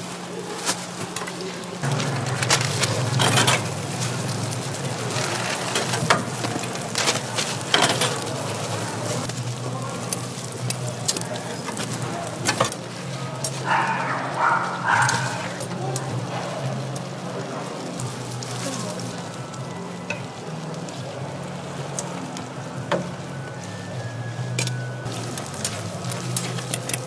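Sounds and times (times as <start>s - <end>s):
oil sizzling on a griddle: 0.0s - 27.0s.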